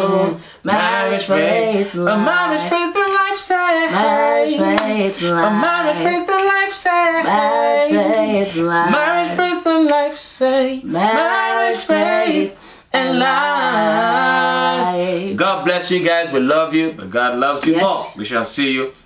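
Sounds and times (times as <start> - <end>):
man and woman singing: 0.0 - 15.9.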